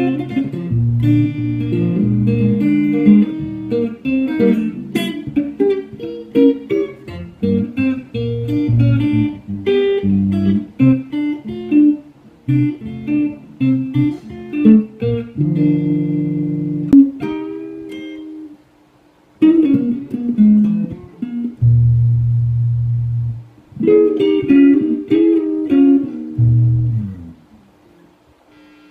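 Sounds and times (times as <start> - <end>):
electric guitar played fingerstyle: 0.0 - 28.9.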